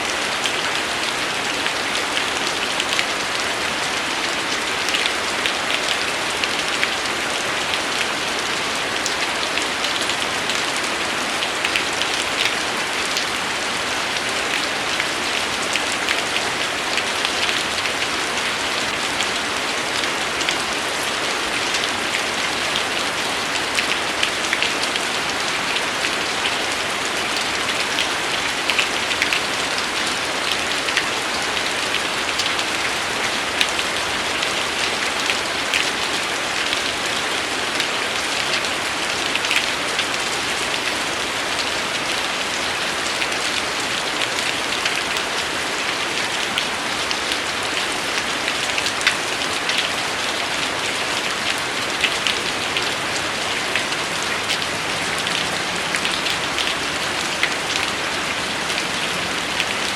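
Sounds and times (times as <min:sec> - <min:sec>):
steady rain with drop hits: 0:00.0 - 0:59.9.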